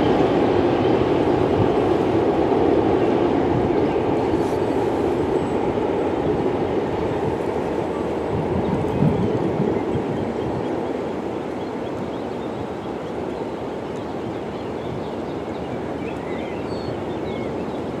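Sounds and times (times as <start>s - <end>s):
low rushing outdoor noise: 0.0s - 18.0s.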